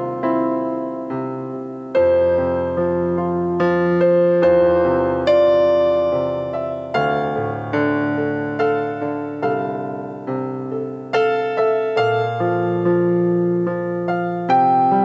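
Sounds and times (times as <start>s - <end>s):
keyboard playing hymn chords: 0.0s - 15.0s.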